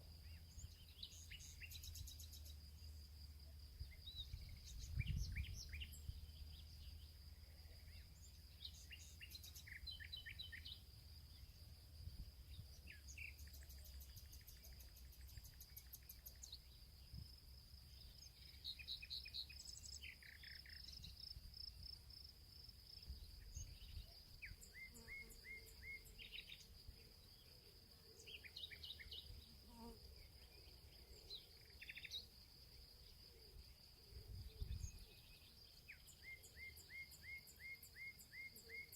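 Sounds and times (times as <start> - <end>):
faint birds chirping: 0.0 - 38.9.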